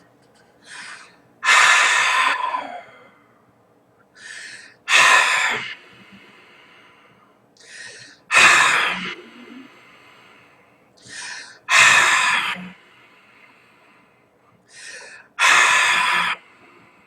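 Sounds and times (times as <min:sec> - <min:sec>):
person hissing breathing: 0:00.6 - 0:03.2, 0:04.2 - 0:17.0.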